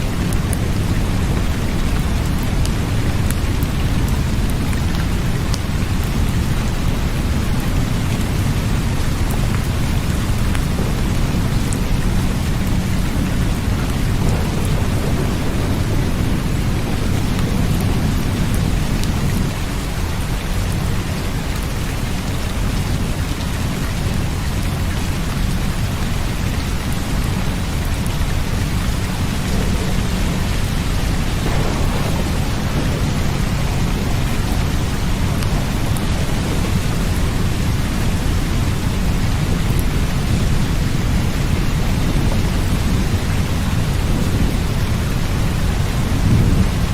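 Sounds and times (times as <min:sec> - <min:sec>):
heavy rain: 0:00.0 - 0:46.9
low rumble of thunder: 0:00.0 - 0:46.9.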